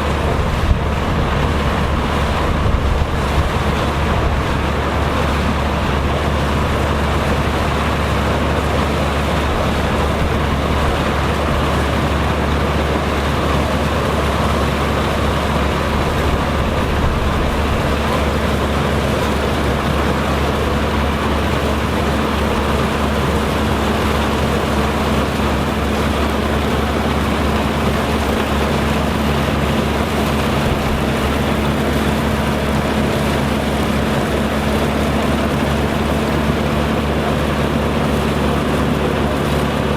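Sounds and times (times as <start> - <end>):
farm machinery engine drone: 0.0 - 39.9.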